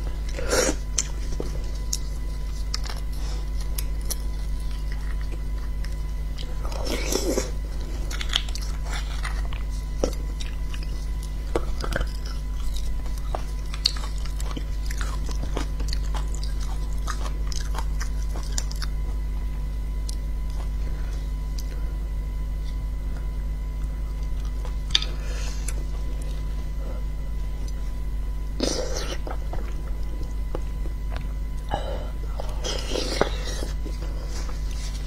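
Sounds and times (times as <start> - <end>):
person chewing wetly: 0.0 - 21.9, 22.6 - 28.0, 28.6 - 35.0
low hum: 0.0 - 35.0.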